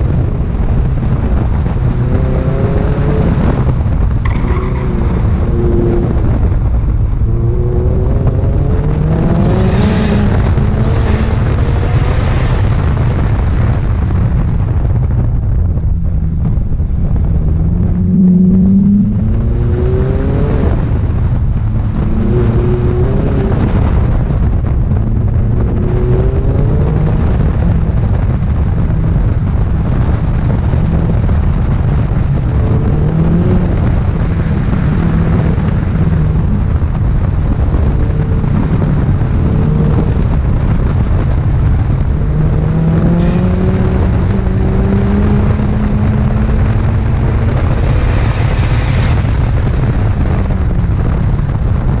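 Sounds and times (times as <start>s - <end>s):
car engine accelerating and slowing: 0.0s - 52.0s
wind buffeting microphone: 0.0s - 52.0s.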